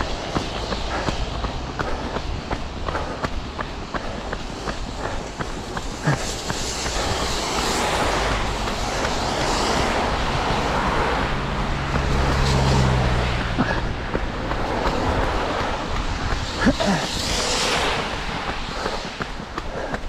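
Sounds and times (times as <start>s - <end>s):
faint running footsteps: 0.0s - 20.0s
steady rushing noise: 0.0s - 20.0s.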